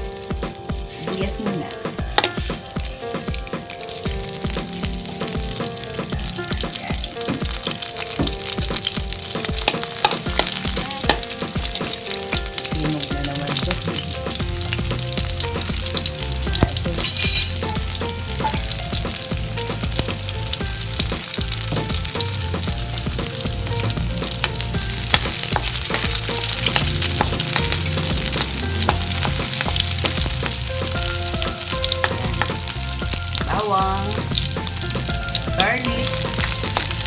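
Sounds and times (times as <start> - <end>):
onion sizzling in oil: 0.0 - 37.0.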